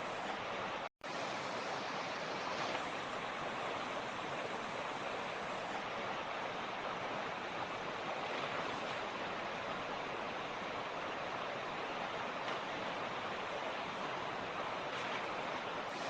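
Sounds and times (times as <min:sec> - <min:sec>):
creek flowing over rocks: 0:00.0 - 0:16.0.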